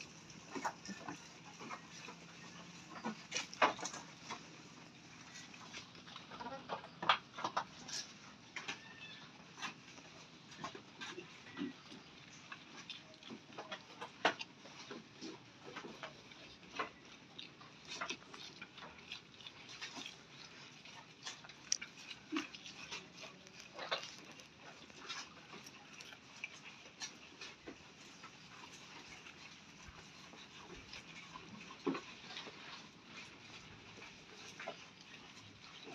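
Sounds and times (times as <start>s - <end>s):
goats crunching grass: 0.0s - 35.9s.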